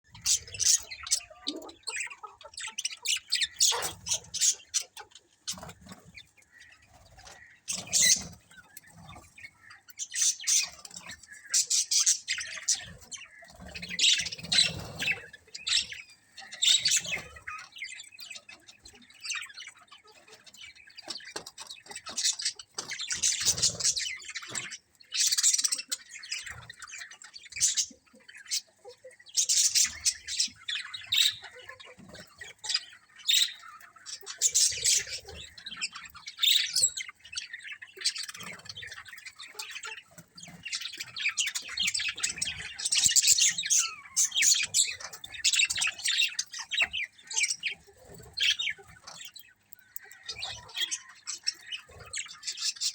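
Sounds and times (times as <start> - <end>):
budgerigars chattering and chirping: 0.1 - 52.9.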